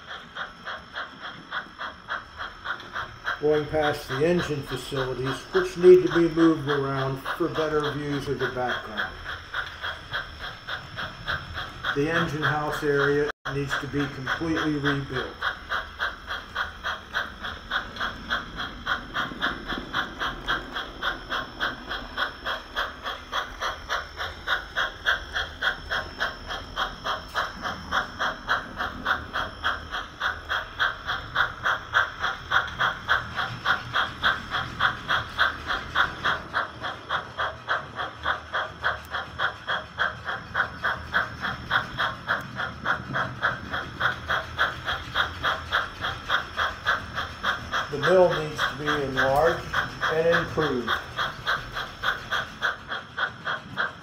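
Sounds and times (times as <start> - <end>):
model steam locomotive chuffing: 0.0 - 54.0.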